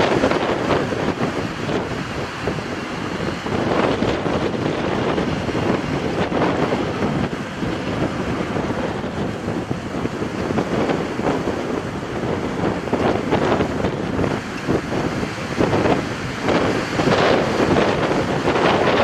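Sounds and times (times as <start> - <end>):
jet engines running: 0.0 - 19.0
wind buffeting microphone: 0.0 - 19.0.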